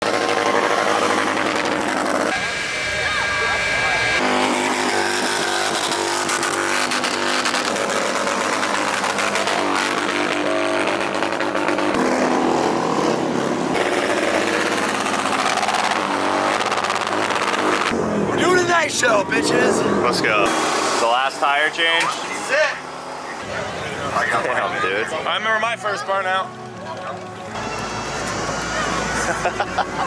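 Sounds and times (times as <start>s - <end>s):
spinning tyres hissing: 0.0s - 24.1s
car engine revving: 0.0s - 30.0s.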